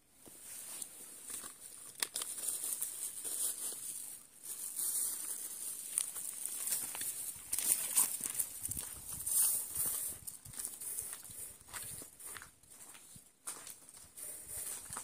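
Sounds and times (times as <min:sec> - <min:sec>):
footsteps on dry leaves and gravel: 0:00.4 - 0:15.0.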